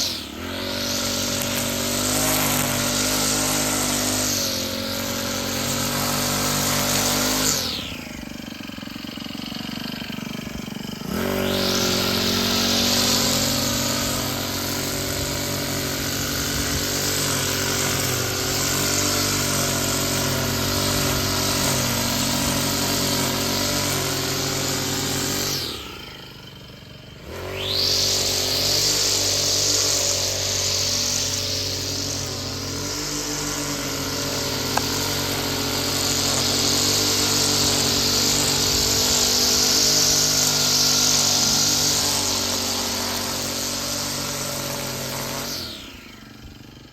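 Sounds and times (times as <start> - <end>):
small petrol engine revving: 0.0 - 46.9.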